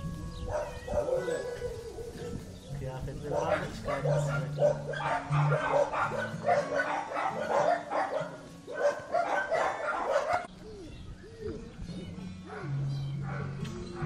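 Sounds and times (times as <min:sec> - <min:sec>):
dogs barking: 0:00.4 - 0:02.5, 0:03.2 - 0:10.9, 0:12.4 - 0:14.0.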